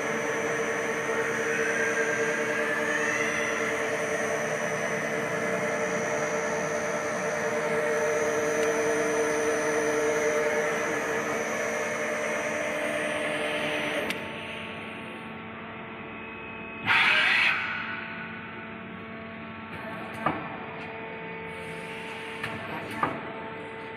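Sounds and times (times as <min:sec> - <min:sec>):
lathe running with hum and whine: 0:00.0 - 0:23.9.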